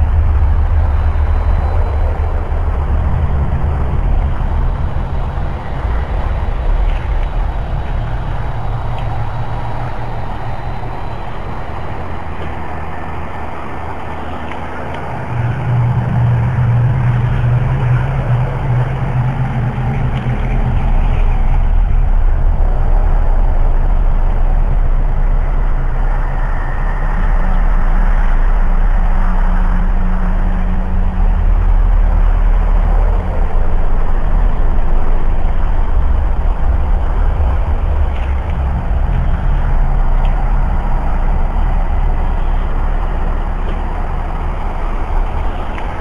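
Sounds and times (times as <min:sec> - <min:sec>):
low droning rumble: 0:00.0 - 0:46.0.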